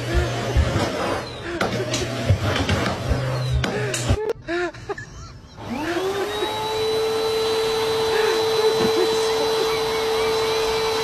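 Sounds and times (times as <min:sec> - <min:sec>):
vacuum cleaner motor whine: 0:00.0 - 0:03.8, 0:05.6 - 0:11.0.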